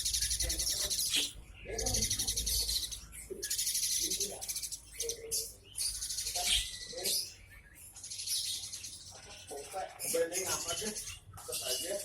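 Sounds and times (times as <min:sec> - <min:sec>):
songbirds singing and chirping: 0:00.0 - 0:12.0.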